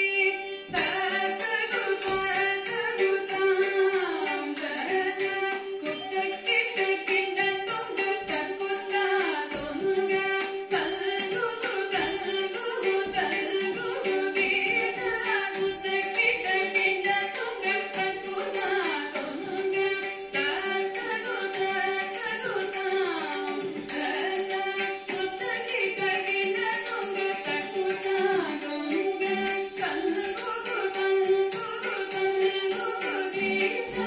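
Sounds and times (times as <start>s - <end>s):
percussion keeping the beat: 0.0s - 34.0s
woman singing: 0.0s - 34.0s.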